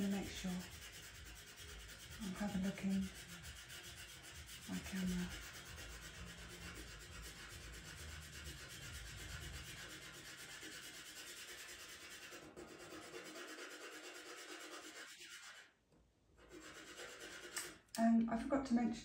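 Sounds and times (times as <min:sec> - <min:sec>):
pastel pencil scratching paper: 0:00.0 - 0:15.8, 0:16.4 - 0:17.9.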